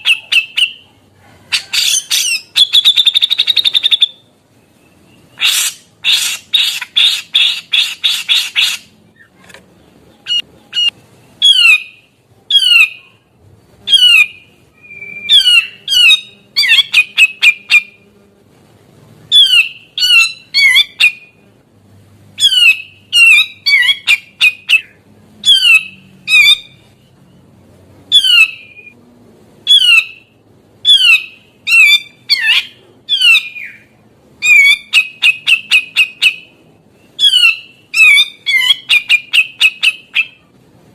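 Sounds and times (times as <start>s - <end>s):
bird calling: 0.0s - 13.3s, 13.9s - 18.0s, 19.3s - 21.4s, 22.4s - 27.2s, 29.6s - 40.5s.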